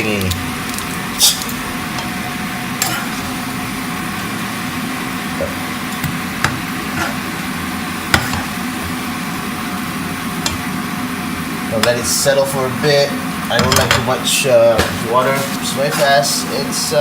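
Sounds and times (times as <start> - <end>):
noodles boiling in a pan: 0.0 - 17.0.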